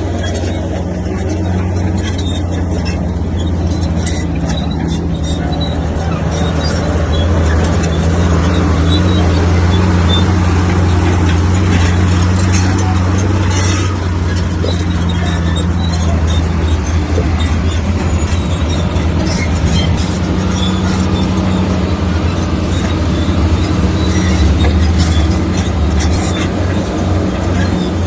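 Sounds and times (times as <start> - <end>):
diesel engine running: 0.0 - 28.0
metallic clanks: 0.0 - 28.0.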